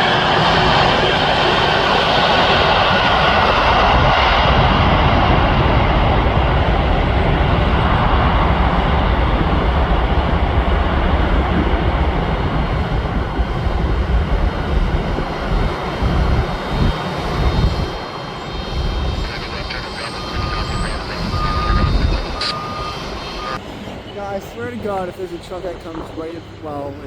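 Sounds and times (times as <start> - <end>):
jet engines roaring: 0.0 - 27.0
wind on microphone: 0.0 - 27.0.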